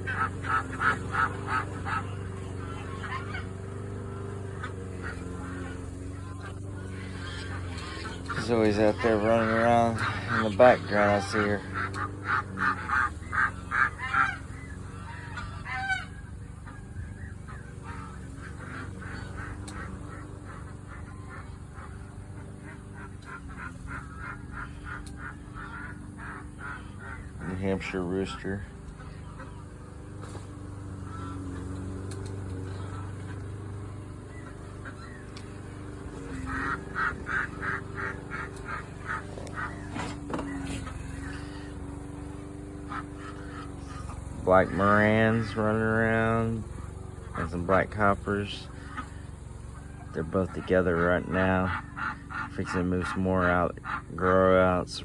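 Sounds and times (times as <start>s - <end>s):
duck quacking: 0.0s - 55.0s
geese honking: 0.0s - 55.0s
low motor hum: 0.0s - 55.0s.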